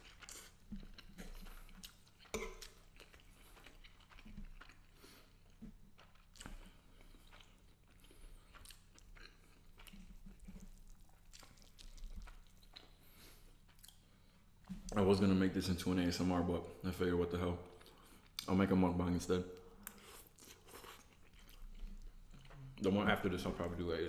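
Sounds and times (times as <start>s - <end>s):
person chewing food: 0.0s - 15.0s, 17.6s - 18.6s, 19.5s - 24.0s.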